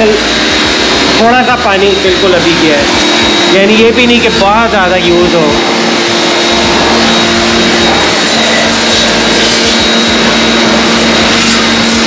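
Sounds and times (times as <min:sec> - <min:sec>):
high-pressure water jet hiss: 0:00.0 - 0:12.0
pressure washer motor hum: 0:00.0 - 0:12.0.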